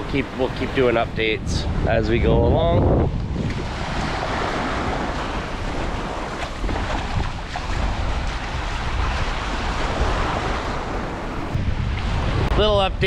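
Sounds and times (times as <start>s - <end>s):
surf washing on sandy beach: 0.0s - 13.0s
wind buffeting microphone: 0.0s - 13.0s.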